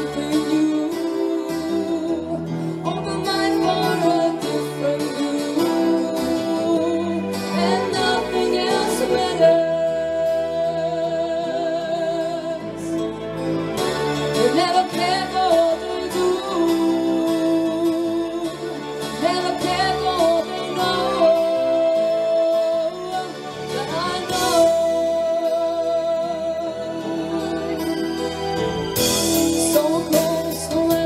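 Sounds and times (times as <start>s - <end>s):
women singing: 0.0s - 13.0s, 14.3s - 28.0s, 29.6s - 31.0s
keyboard accompaniment: 0.0s - 31.0s.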